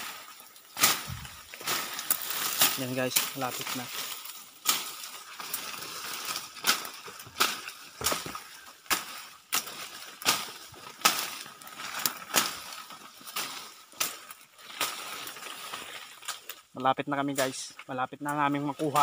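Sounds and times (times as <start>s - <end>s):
rustling through undergrowth: 0.0s - 19.0s
twigs snapping underfoot: 0.0s - 19.0s.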